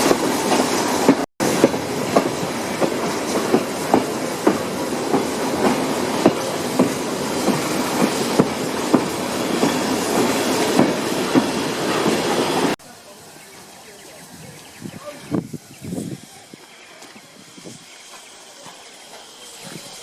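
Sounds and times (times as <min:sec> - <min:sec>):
train carriage rumbling: 0:00.0 - 0:20.0.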